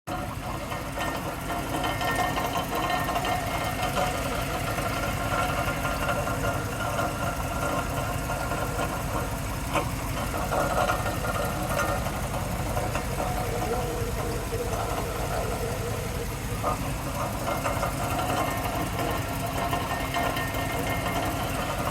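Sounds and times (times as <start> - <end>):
car engine running: 0.1 - 21.9
rapid knocking from engine: 0.1 - 21.9.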